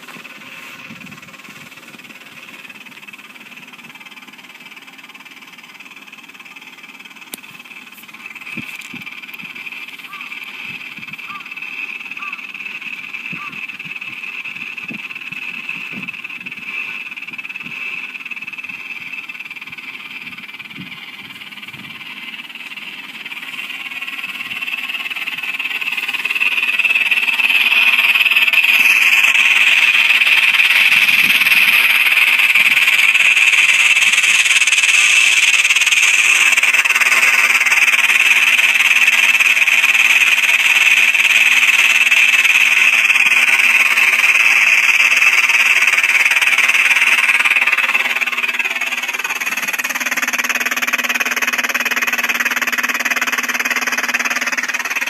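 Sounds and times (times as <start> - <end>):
high hissing electronic drone: 9.4 - 55.0.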